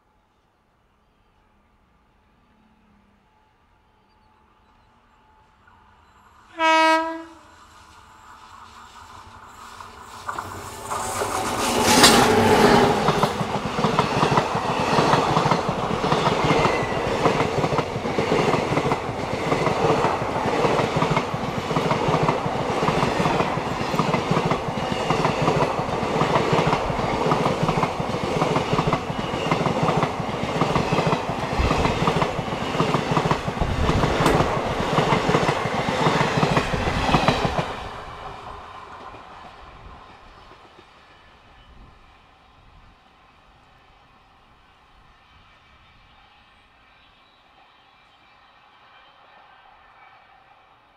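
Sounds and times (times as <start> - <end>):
train passing at speed: 0.0 - 50.9.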